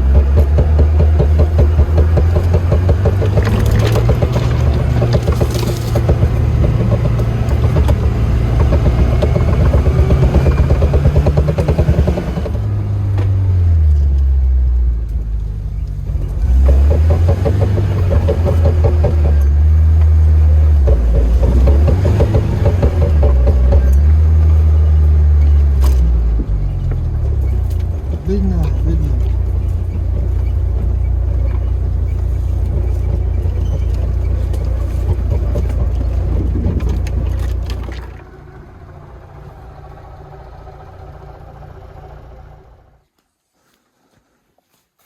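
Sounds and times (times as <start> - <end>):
car engine droning under load: 0.0 - 43.1.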